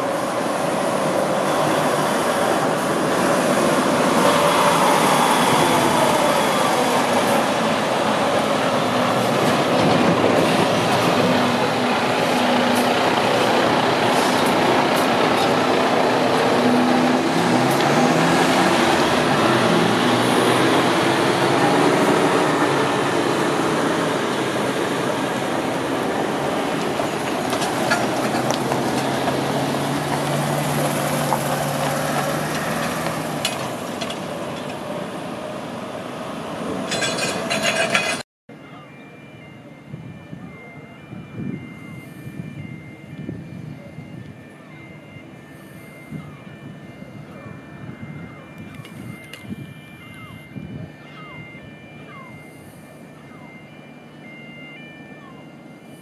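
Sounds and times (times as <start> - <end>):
lorry engine and tyre noise: 0.0 - 56.0.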